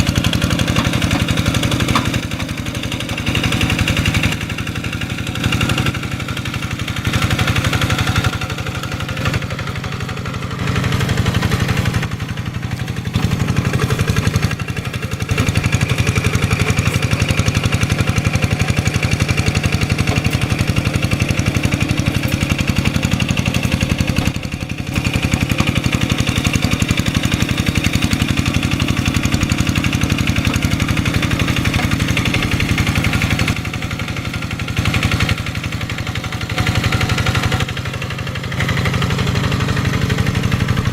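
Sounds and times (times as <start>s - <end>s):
hand tractor diesel engine: 0.0s - 40.9s.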